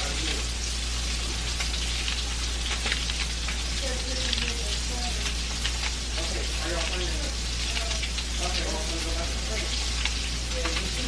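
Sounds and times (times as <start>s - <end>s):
patties sizzling on stove: 0.0s - 11.0s.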